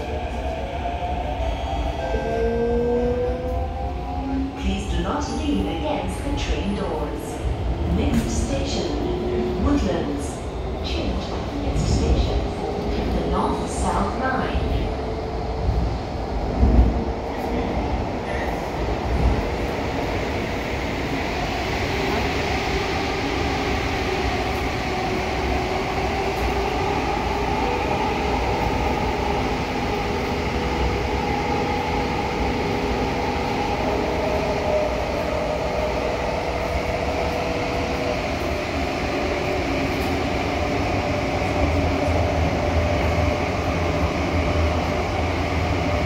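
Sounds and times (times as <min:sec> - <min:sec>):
train rumbling in tunnel: 0:00.0 - 0:46.0.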